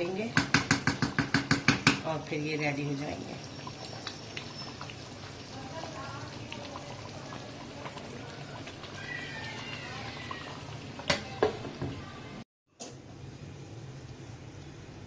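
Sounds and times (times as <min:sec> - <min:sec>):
curry bubbling in wok: 0:00.0 - 0:12.4.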